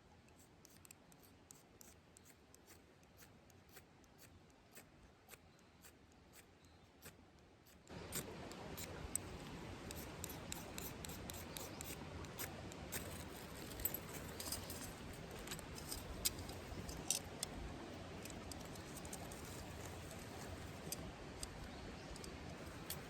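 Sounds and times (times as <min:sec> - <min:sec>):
low steady hiss: 0:00.0 - 0:23.0.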